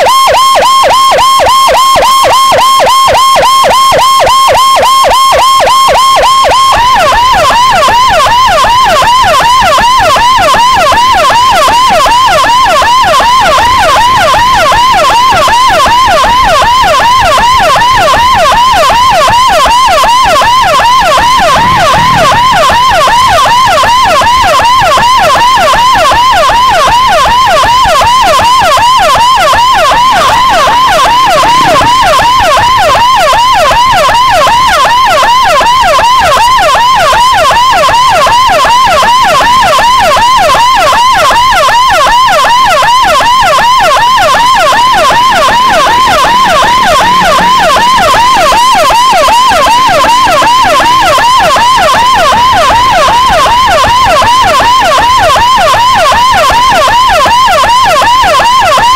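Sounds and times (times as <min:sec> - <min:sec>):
electronic siren yelping: 0:00.0 - 0:58.9.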